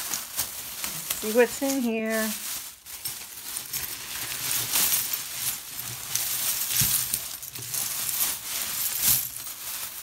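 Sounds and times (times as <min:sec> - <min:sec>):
metal jewelry clinking: 0:00.0 - 0:10.0.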